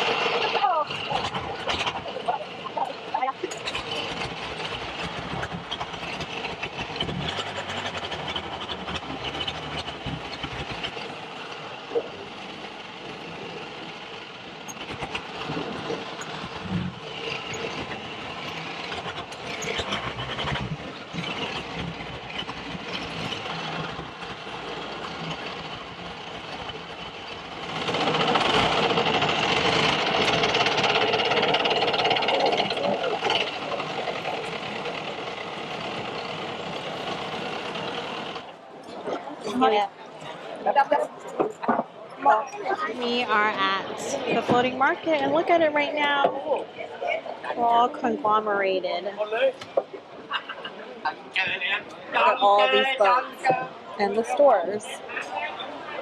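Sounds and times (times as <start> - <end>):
boat engine running: 0.0 - 51.4.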